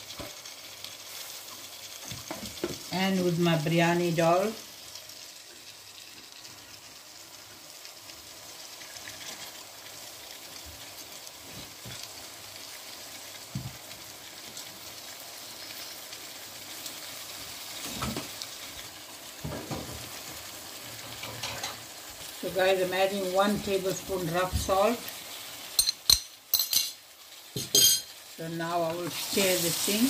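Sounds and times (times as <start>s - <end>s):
vegetables frying in oil: 0.0s - 30.0s.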